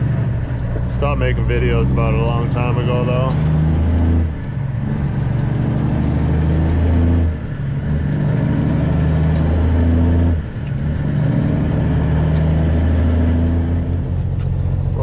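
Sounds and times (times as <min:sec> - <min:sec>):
diesel truck engine pulling: 0:00.0 - 0:15.0.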